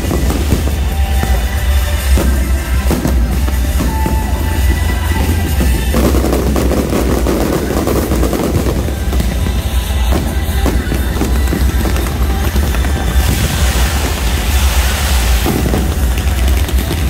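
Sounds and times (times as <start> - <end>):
fireworks banging: 0.0 - 17.0
music: 0.0 - 17.0.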